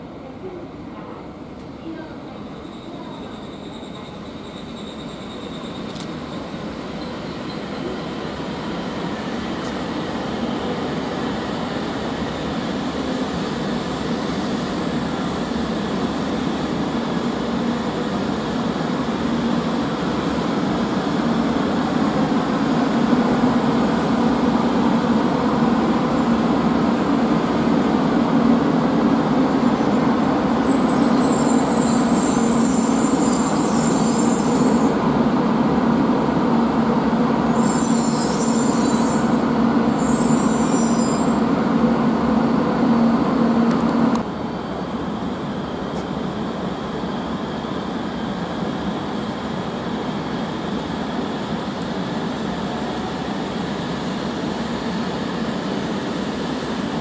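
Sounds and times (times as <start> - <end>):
high-speed train rumbling past: 0.0 - 57.0.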